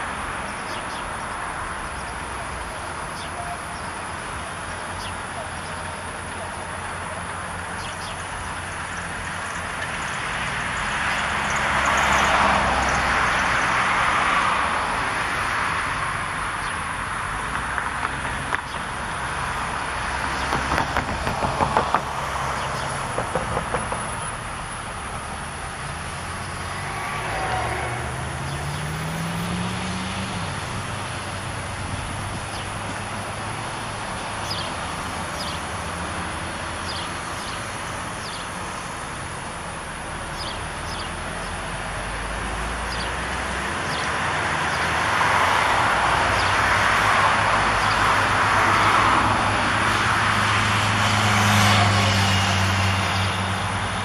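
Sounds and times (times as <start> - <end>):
vehicle passing: 0.0 - 54.0.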